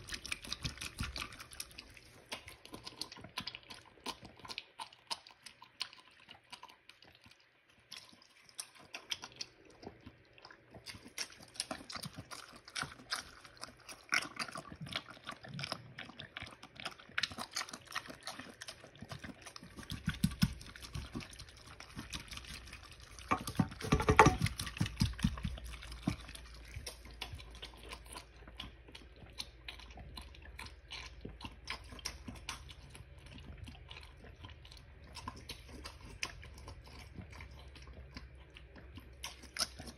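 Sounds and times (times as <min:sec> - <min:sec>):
low steady hum: 0:00.0 - 0:39.9
pig slurping and chewing: 0:00.0 - 0:39.9.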